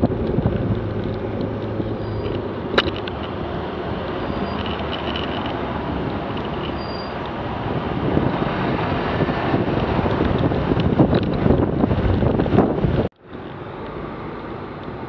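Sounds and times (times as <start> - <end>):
wind noise on microphone: 0.0 - 13.8
motorcycle engine drone: 0.0 - 15.0.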